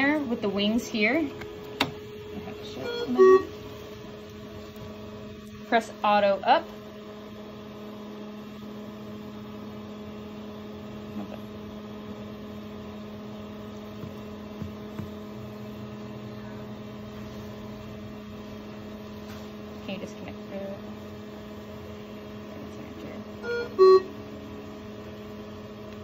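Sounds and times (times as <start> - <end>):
machine electrical hum: 0.0 - 26.0.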